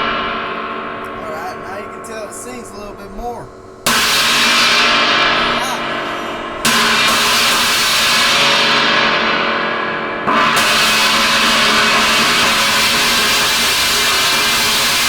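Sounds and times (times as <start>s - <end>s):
china cymbal ringing: 0.0s - 15.0s.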